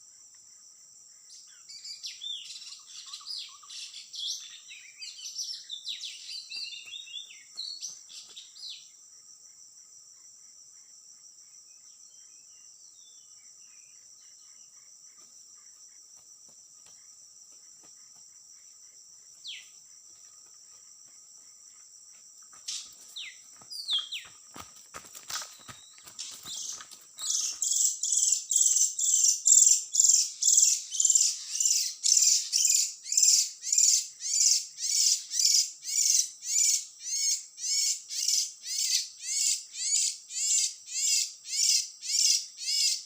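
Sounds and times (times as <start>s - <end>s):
high-pitched insect drone: 1.2s - 43.0s.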